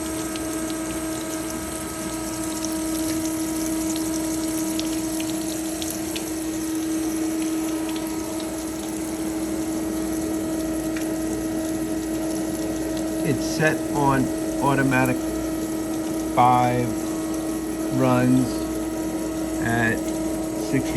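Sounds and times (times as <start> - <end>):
band saw motor humming: 0.0 - 20.9.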